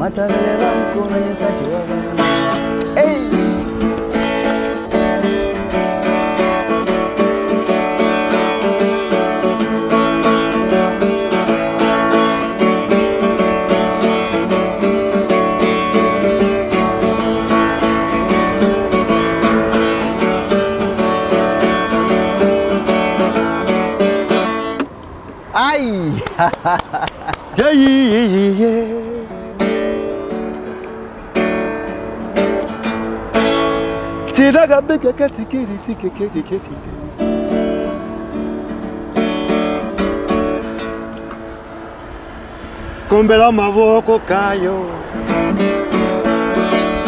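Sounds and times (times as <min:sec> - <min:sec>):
acoustic guitar picking and strumming: 0:00.0 - 0:47.0.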